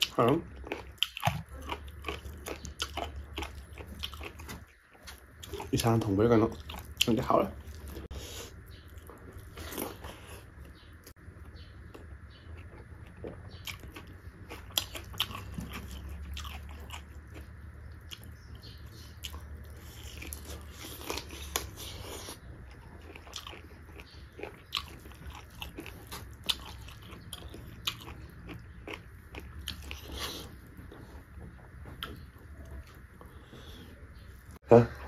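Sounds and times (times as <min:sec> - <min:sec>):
chewing and biting food: 0:00.0 - 0:34.6.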